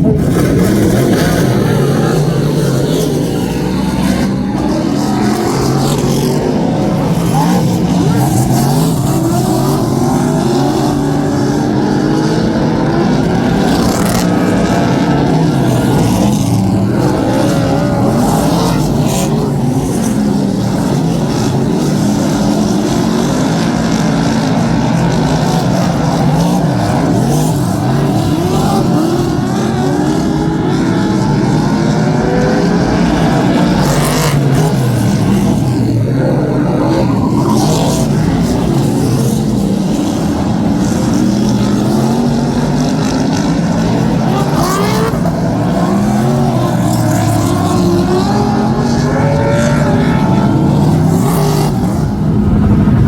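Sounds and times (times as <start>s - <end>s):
race car engines racing: 0.0s - 53.0s.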